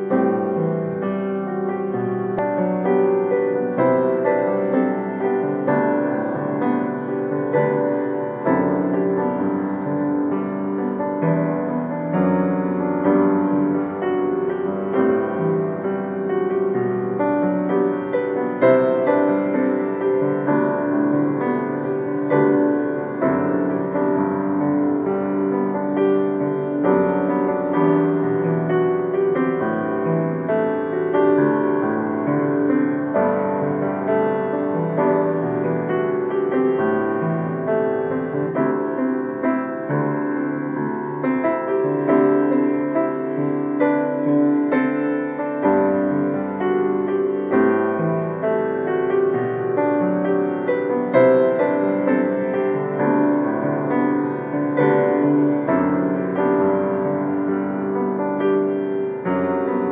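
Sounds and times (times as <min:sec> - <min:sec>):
piano chords and melody: 0:00.0 - 0:59.9.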